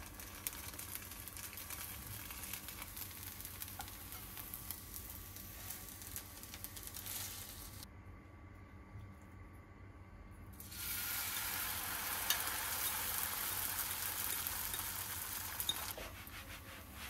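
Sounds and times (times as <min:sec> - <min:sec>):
pancake sizzling in oil: 0:00.0 - 0:07.9, 0:10.6 - 0:17.0.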